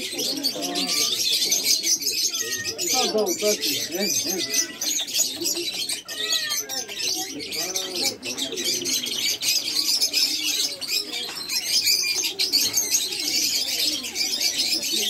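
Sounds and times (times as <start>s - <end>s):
pigeons cooing: 0.0s - 15.0s
small birds chirping: 0.0s - 15.0s.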